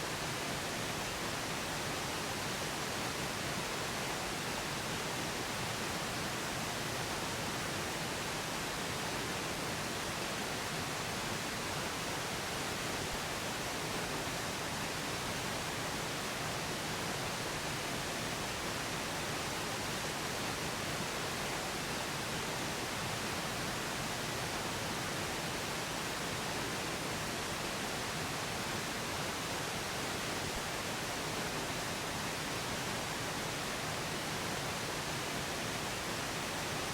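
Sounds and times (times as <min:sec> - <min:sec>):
pink noise hiss: 0:00.0 - 0:36.9.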